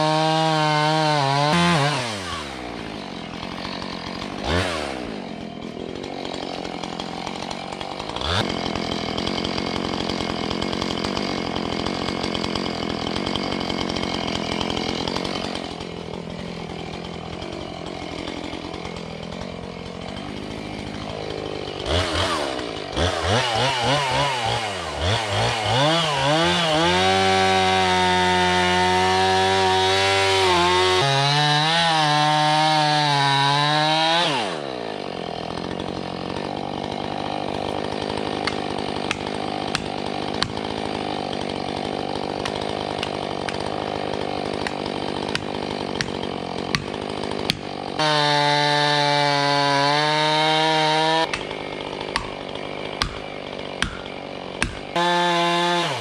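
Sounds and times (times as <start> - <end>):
chainsaw cutting and idling: 0.0 - 56.0.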